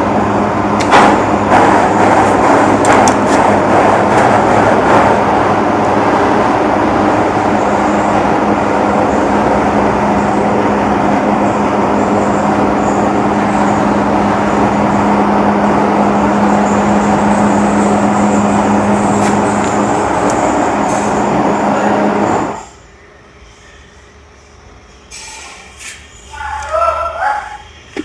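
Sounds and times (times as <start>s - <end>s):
machine running with low hum: 0.0s - 25.1s.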